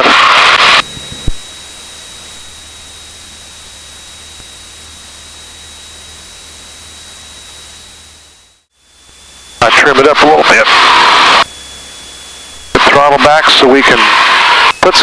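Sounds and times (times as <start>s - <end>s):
intercom electronic hiss: 0.0s - 7.7s, 9.0s - 15.0s
high-pitched whine: 0.0s - 15.0s.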